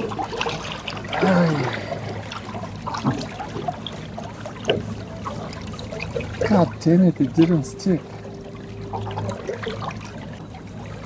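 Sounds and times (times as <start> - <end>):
boat motor humming: 0.0 - 11.0
water splashing against boat: 0.0 - 11.0.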